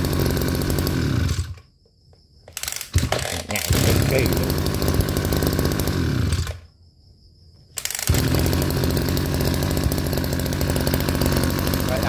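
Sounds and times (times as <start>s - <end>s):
brush cutter engine running: 0.0s - 1.6s, 2.5s - 6.7s, 7.8s - 12.0s
engine pull-start: 0.0s - 1.7s, 2.5s - 6.7s, 7.8s - 12.0s.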